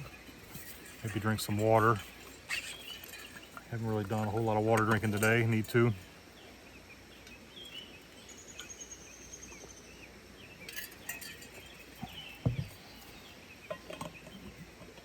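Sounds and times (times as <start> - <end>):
background hiss: 0.0 - 15.0
small birds chirping: 0.0 - 15.0.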